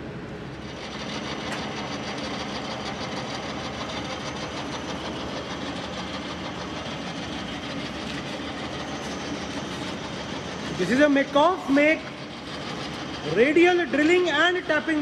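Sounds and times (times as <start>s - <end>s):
drilling machine whirring: 0.5s - 15.0s.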